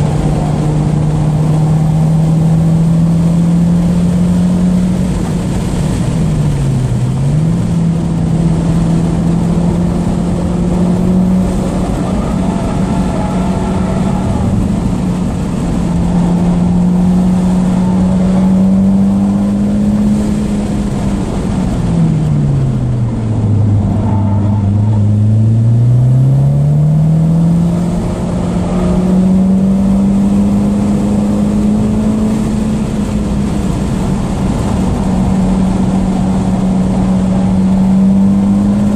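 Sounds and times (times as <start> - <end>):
car engine under throttle: 0.0 - 38.9
road and wind noise: 0.0 - 38.9.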